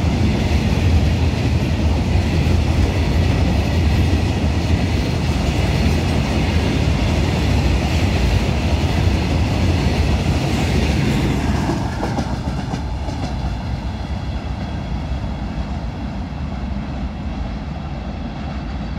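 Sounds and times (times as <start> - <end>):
freight train wheels clattering: 0.0 - 15.6.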